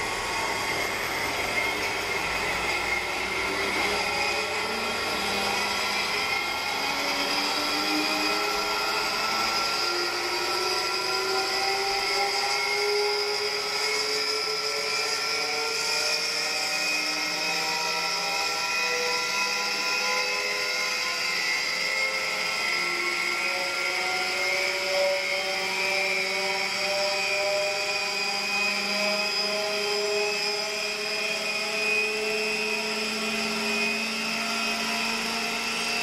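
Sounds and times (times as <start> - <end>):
centrifuge whine rising in pitch: 0.0 - 36.0.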